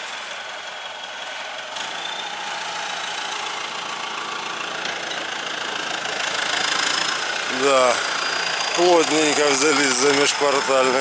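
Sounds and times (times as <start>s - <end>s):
engine idling: 0.0s - 11.0s
outdoor noise: 0.0s - 11.0s.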